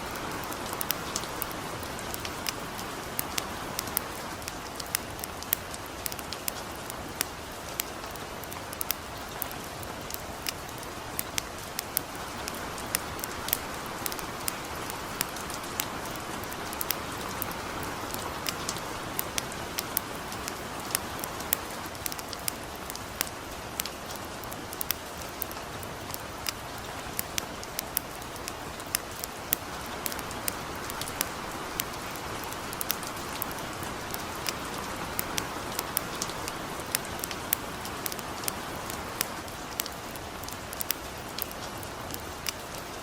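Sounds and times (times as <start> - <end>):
campfire crackling: 0.0 - 43.0
light rain hiss: 0.0 - 43.0.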